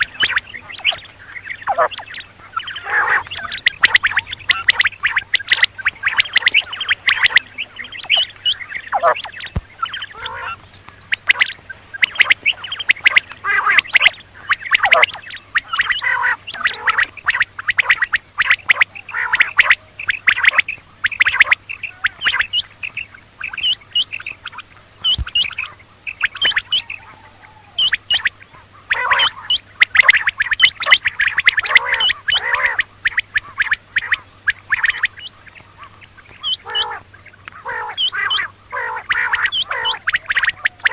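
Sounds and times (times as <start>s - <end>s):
quails calling: 0.0s - 40.9s.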